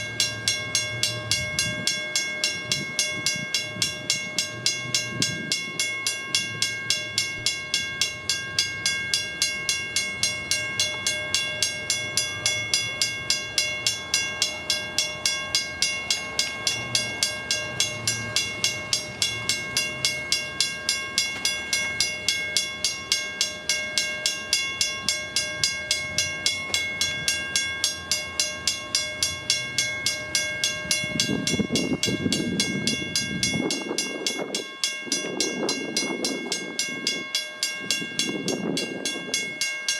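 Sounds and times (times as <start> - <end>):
crossing bell ringing: 0.0 - 39.9.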